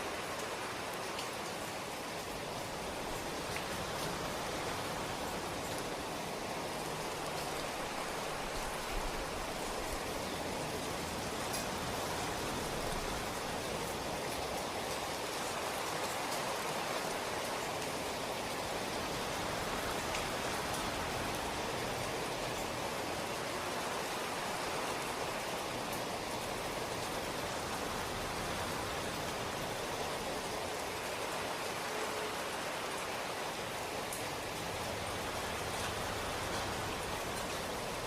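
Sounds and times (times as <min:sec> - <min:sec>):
steady rainfall: 0:00.0 - 0:38.0.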